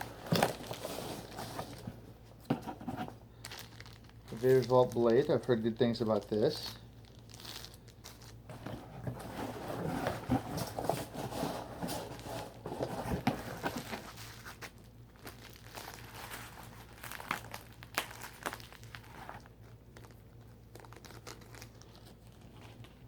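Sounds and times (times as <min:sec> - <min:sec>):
packaging crinkling: 0:03.3 - 0:23.0.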